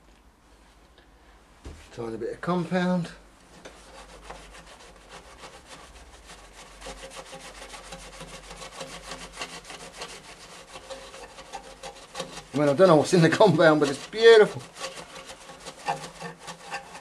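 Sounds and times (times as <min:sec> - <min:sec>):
scratchy rubbing on metal: 0:03.0 - 0:17.0.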